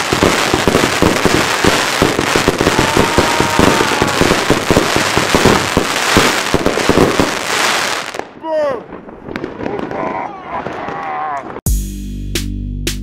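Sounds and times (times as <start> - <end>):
firework cake bangs and crackling: 0.0 - 11.6.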